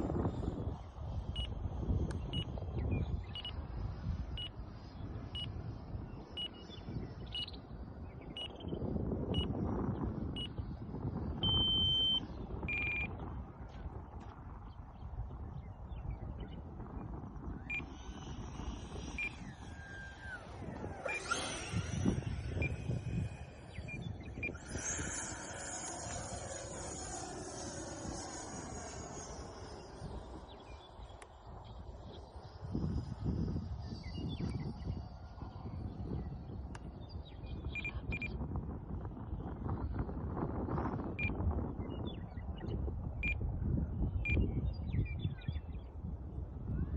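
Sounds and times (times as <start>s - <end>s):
rc jet ducted fan whine: 0.0s - 42.2s
wind buffeting microphone: 0.0s - 46.9s.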